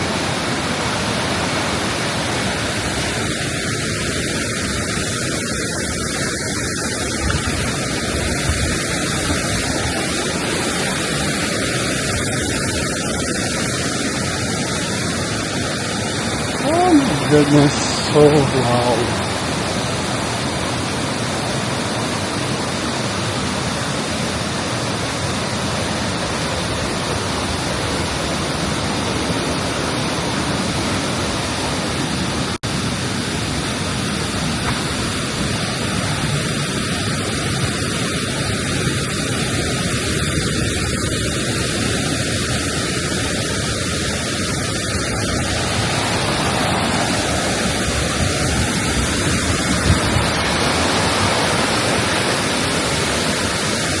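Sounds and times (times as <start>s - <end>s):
waterfall crashing: 0.0s - 54.0s.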